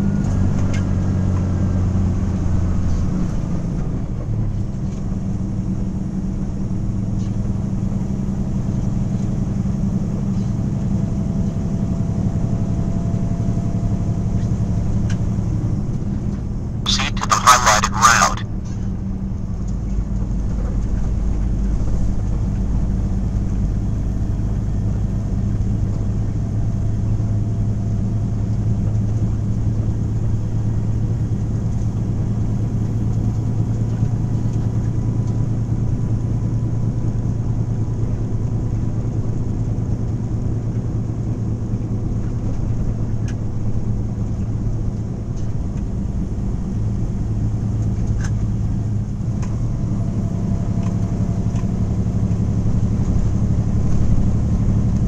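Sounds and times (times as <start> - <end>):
engine hum inside vehicle: 0.0 - 18.6, 19.2 - 55.0.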